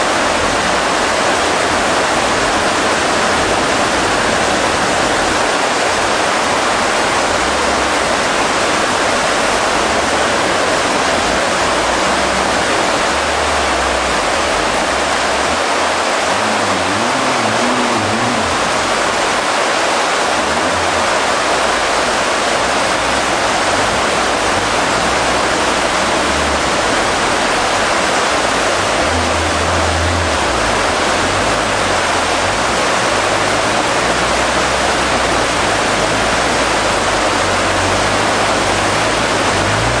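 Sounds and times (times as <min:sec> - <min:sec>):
river rushing over rapids: 0:00.0 - 0:40.0.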